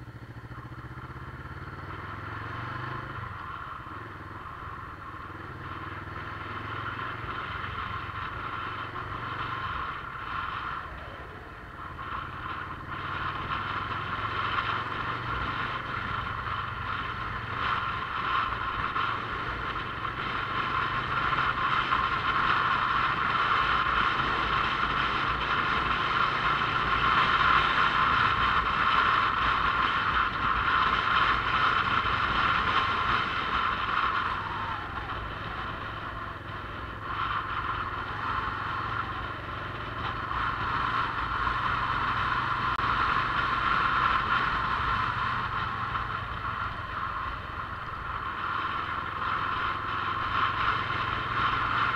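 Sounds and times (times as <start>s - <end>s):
motorcycle engine running: 0.0s - 51.9s
wind and road noise hiss: 0.0s - 51.9s.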